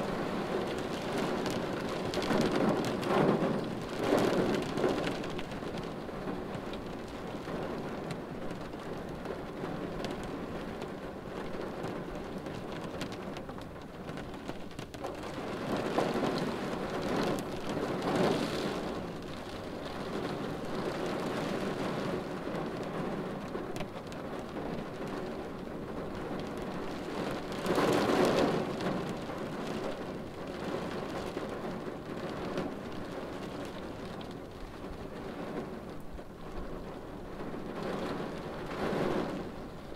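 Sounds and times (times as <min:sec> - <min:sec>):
rain on a car windshield: 0:00.0 - 0:39.9.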